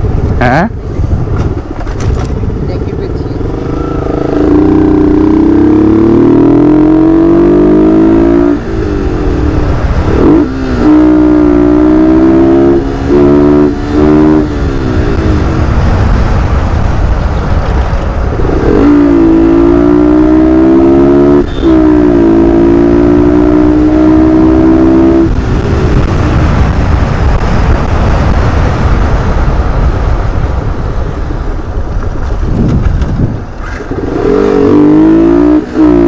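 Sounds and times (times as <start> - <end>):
motorcycle engine revving: 1.2 - 30.4, 32.1 - 36.0.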